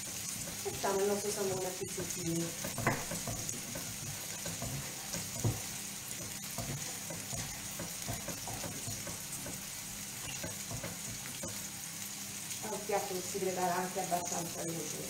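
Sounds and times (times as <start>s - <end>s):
vegetables sizzling in a frying pan: 0.0s - 15.0s.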